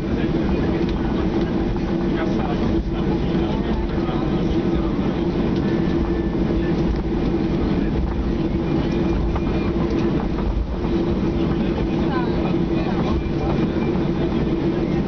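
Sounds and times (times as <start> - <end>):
airliner rolling rumble: 0.0 - 15.0
jet engines idling: 0.0 - 15.0.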